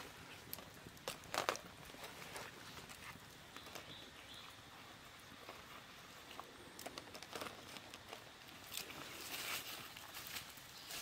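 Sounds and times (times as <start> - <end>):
faint forest ambience: 0.0 - 11.0
soft clicks and rustles: 0.0 - 11.0.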